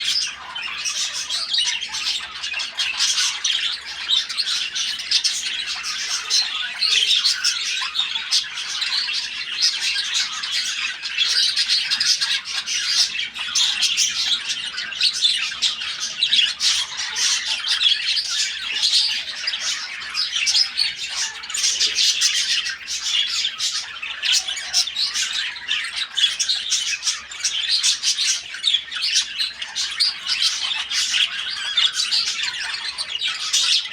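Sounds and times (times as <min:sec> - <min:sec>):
birds chattering and squawking: 0:00.0 - 0:33.9.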